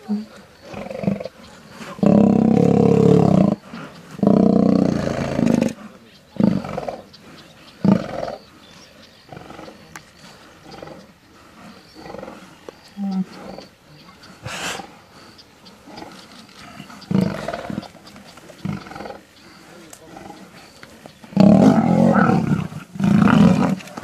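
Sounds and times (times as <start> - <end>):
lions calling: 0.0 - 24.0.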